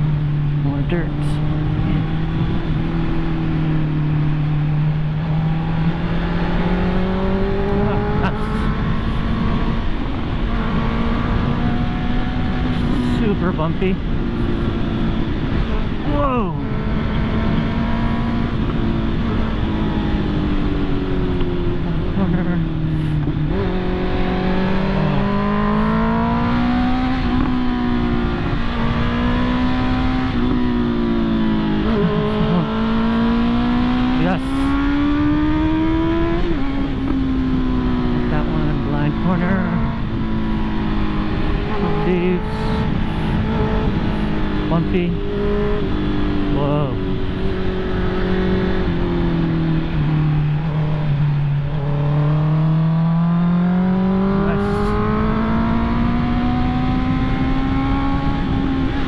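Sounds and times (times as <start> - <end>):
motorcycle engine revving: 0.0 - 59.0
wind and road rush: 0.0 - 59.0.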